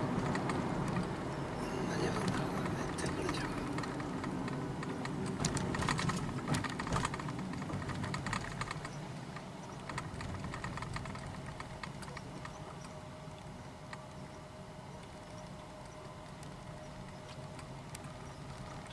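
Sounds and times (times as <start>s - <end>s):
car cabin road hum: 0.0s - 18.9s.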